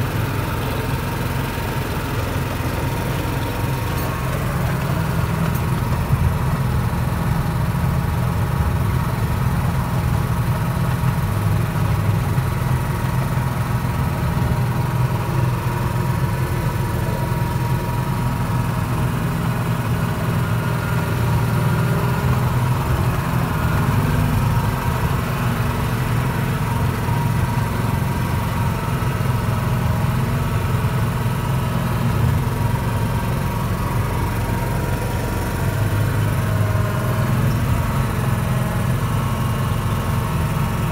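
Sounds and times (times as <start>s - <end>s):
locomotive petrol engine running: 0.0s - 40.9s.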